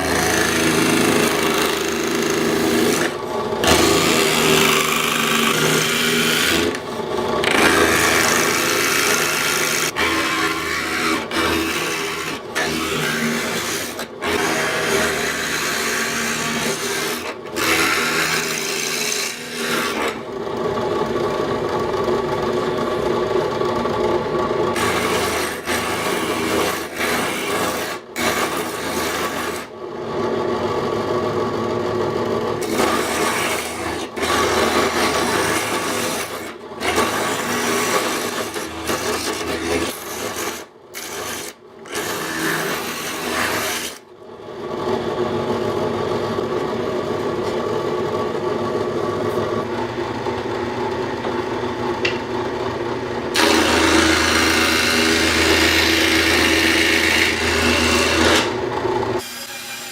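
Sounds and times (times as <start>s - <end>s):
power tools working wood: 0.0s - 20.8s, 24.6s - 30.5s, 32.5s - 45.4s, 46.2s - 59.9s.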